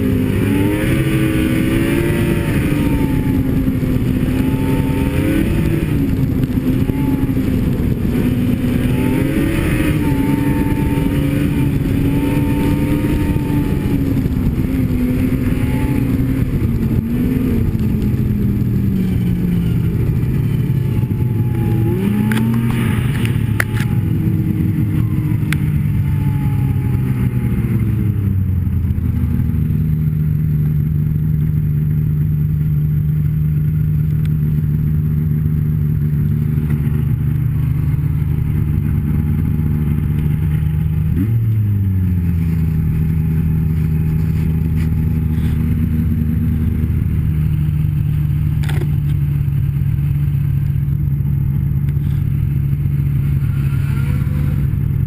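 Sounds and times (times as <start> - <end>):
snowmobile engine revving: 0.0 - 31.2, 34.5 - 55.0.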